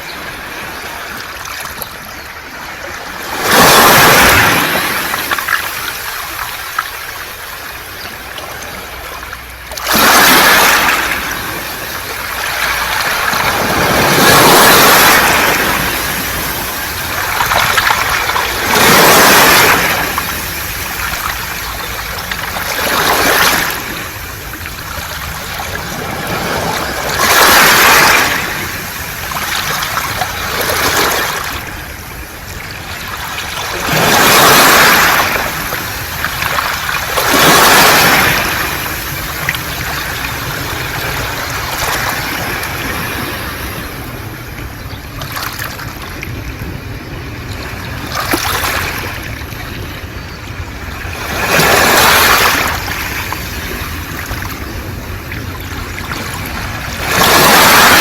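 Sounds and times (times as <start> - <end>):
waves washing over pebbles: 0.0 - 58.0.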